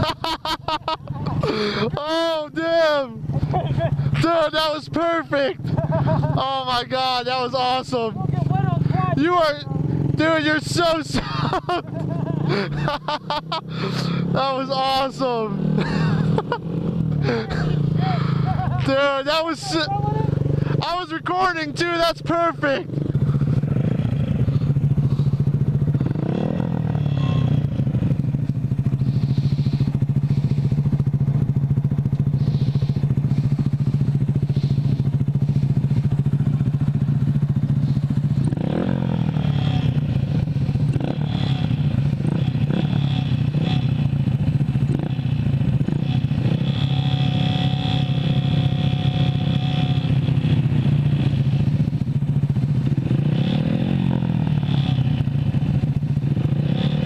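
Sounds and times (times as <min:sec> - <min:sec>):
motorcycle engine blipped: 0:00.0 - 0:57.0
motorcycle engines idling: 0:00.0 - 0:57.0.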